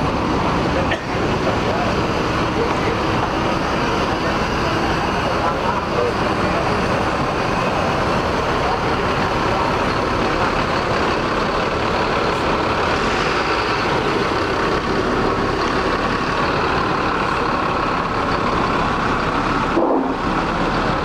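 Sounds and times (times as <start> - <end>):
bus diesel engine passing: 0.0 - 21.0.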